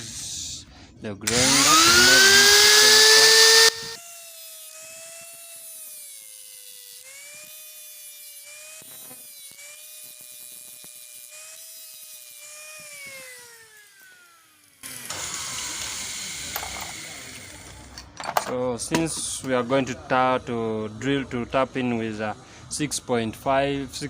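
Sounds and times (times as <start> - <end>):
high-speed grinder whine: 1.3 - 18.0, 19.0 - 24.0.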